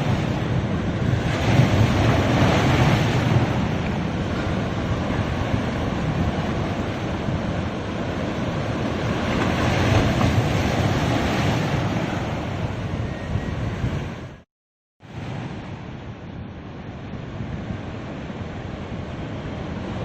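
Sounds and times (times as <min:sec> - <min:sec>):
ocean waves breaking on beach: 0:00.0 - 0:14.4, 0:15.0 - 0:20.0.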